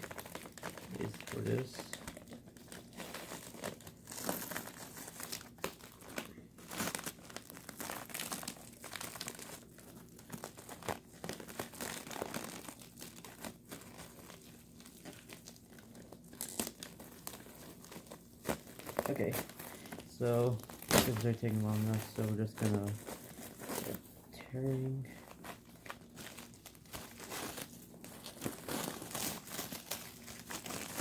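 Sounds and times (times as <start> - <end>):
plastic tearing: 0.0 - 31.0
plastic wrap crinkling: 0.0 - 31.0.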